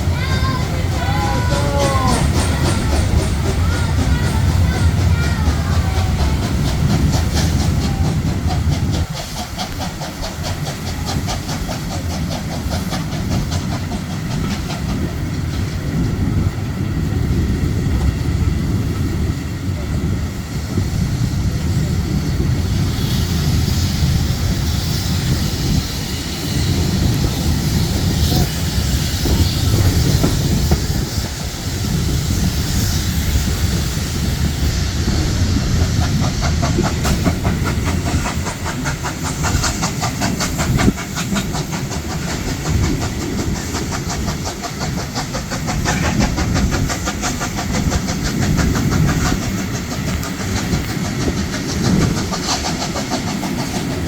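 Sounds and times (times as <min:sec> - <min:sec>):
fast even rail beat: 0:00.0 - 0:54.0
train rumbling on rails: 0:00.0 - 0:54.0.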